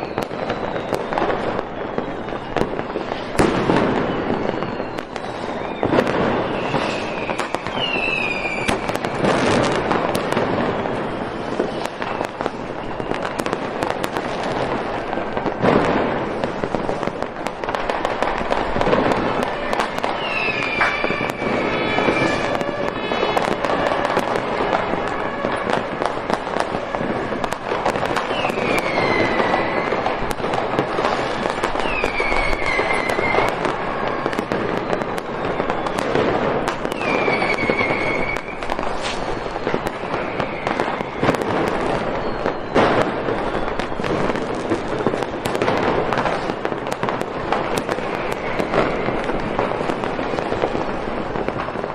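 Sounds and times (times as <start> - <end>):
falling firework whistles: 0.0 - 51.9
fireworks cracking and banging: 0.0 - 51.9.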